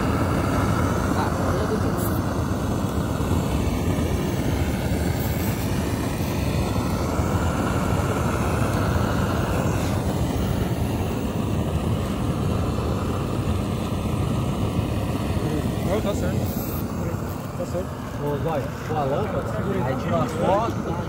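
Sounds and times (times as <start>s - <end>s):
gas burner roaring: 0.0s - 21.0s.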